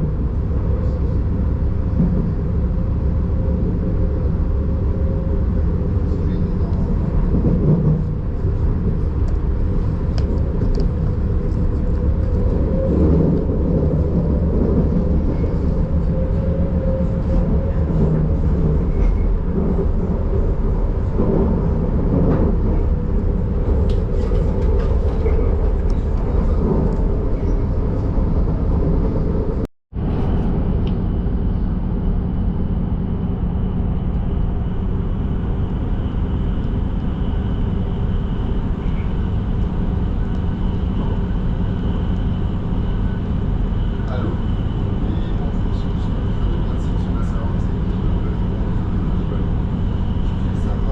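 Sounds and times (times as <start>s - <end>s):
train rumbling along track: 0.0s - 50.9s.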